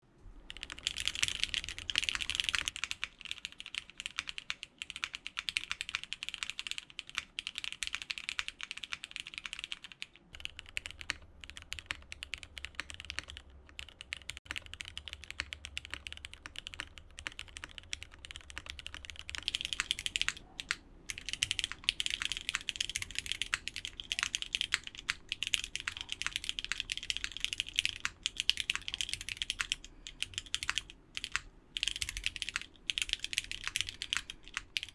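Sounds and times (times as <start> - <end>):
fast mechanical keyboard typing: 0.5 - 34.9.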